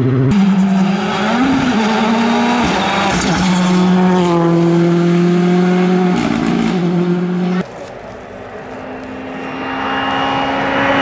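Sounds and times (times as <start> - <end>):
rally car engines revving: 0.0 - 7.6, 8.8 - 11.0.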